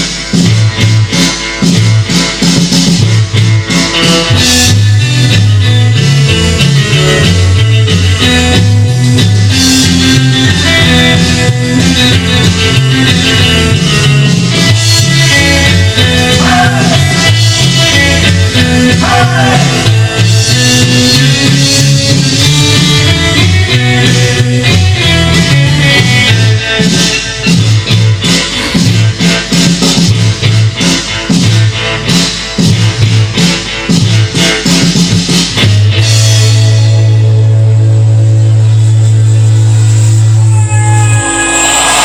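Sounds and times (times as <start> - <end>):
rockabilly band music: 0.0 - 42.0
stepping bass line: 0.0 - 42.0.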